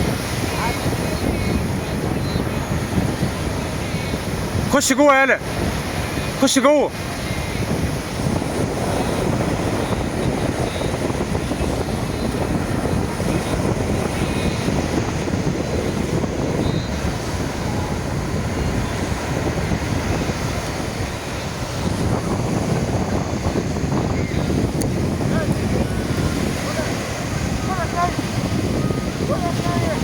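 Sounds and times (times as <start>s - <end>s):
sea waves breaking: 0.0s - 30.0s
wind noise on microphone: 0.0s - 30.0s.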